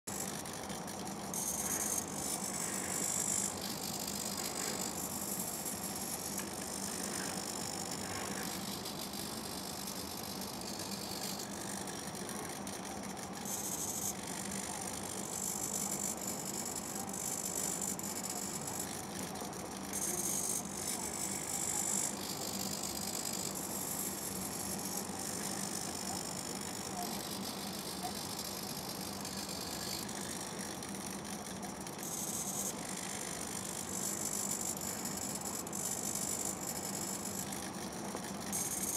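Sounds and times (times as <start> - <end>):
servos whining: 0.0 - 38.9
steady low hum: 0.0 - 38.9.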